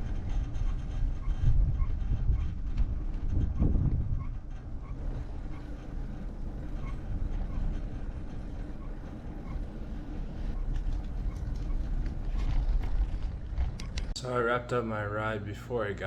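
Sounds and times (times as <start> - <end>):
bicycle tyre noise: 0.0 - 14.2
wind buffeting microphone: 0.0 - 14.2.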